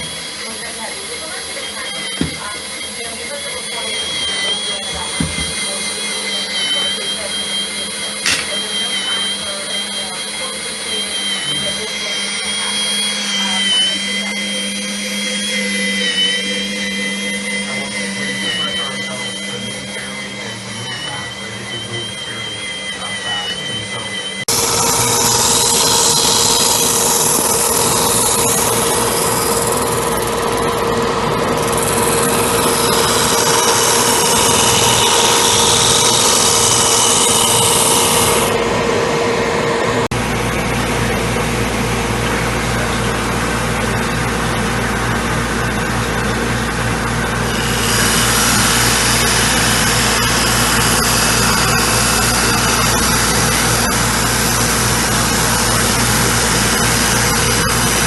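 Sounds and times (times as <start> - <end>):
deeper machine hum: 0.0 - 58.0
drum sander sanding wood: 0.0 - 58.0.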